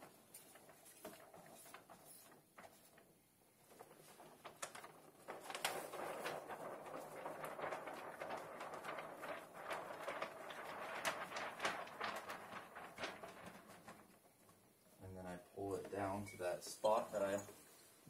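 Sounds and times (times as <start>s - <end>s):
plastic film crinkling: 0.0s - 14.7s.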